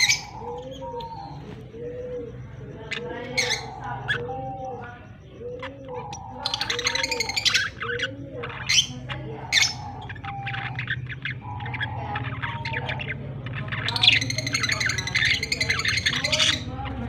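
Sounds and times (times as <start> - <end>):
budgies chirping and squawking: 0.0 - 17.0.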